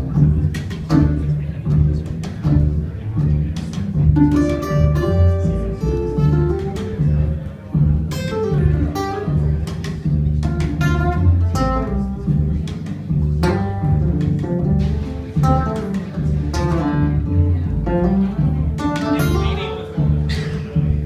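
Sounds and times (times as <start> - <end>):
acoustic guitar strumming: 0.0 - 21.0
double bass walking line: 0.0 - 21.0.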